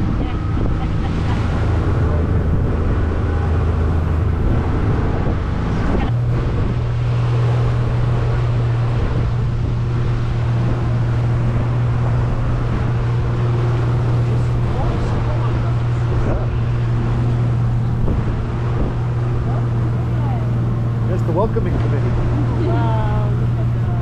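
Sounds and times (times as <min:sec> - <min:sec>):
motorboat engine running: 0:00.0 - 0:24.0
wind buffeting microphone: 0:00.0 - 0:24.0.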